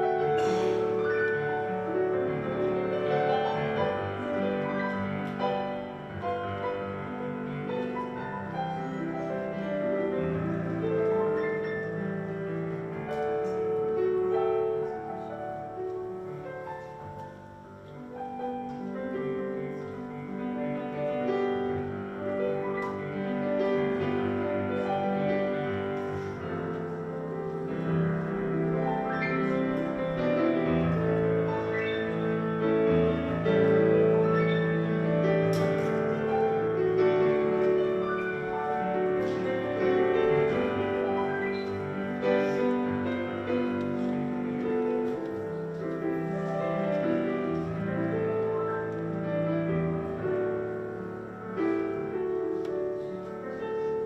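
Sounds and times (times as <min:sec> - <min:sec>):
slow piano music: 0:00.0 - 0:54.0.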